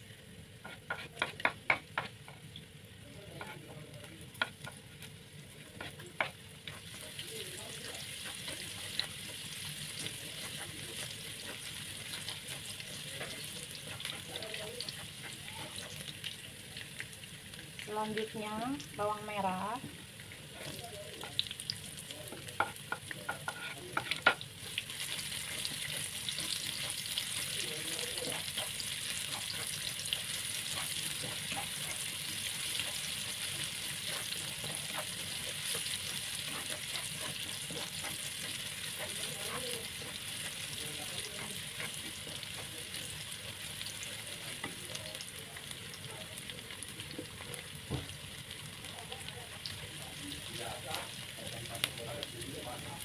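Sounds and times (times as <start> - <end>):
garlic sizzling in hot oil: 0.0 - 53.0.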